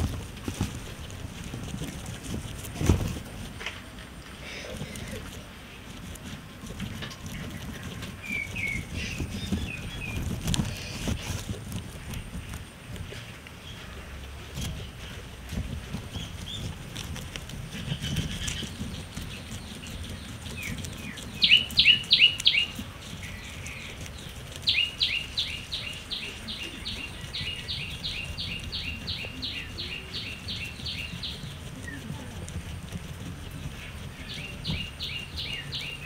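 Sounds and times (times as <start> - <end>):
guinea pig chewing grass: 0.0 - 36.0.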